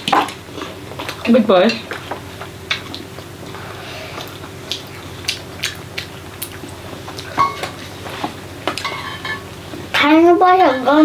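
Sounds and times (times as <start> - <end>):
people chewing and lip-smacking: 0.0 - 10.0
faint steady hum: 0.0 - 11.0.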